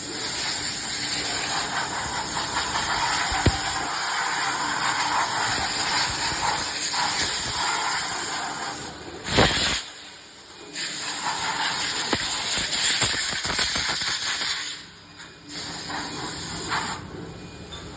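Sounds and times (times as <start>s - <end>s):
steady hissing spray: 0.0s - 14.9s, 15.5s - 17.1s.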